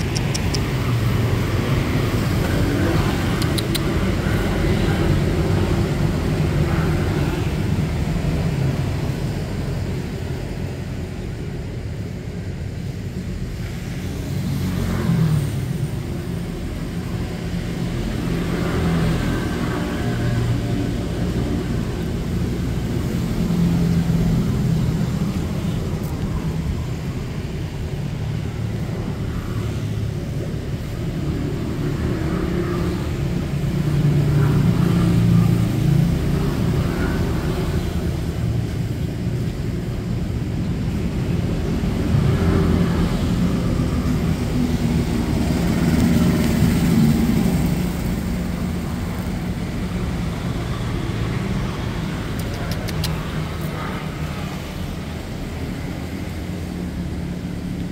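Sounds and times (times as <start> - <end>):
motor vehicles passing: 0.0 - 57.9.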